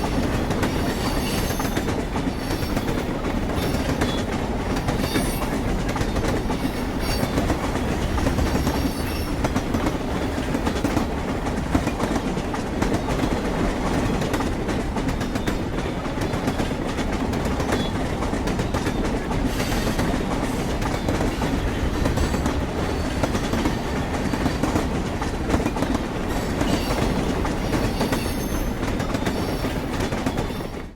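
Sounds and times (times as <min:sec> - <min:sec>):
train wheels clanking on rails: 0:00.0 - 0:30.9.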